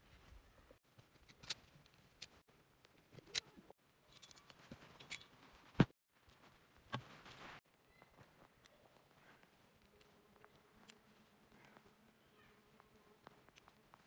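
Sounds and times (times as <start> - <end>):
small clicks and handling noises: 0.9 - 5.4, 6.3 - 12.0, 12.8 - 14.0.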